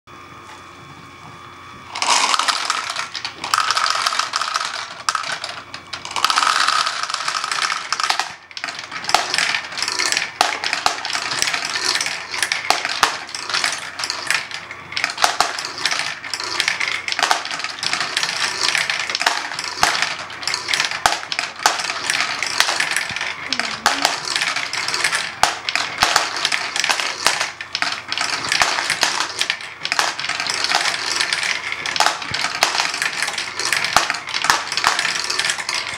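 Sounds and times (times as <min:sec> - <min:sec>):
plastic balls clattering: 0:01.9 - 0:35.9.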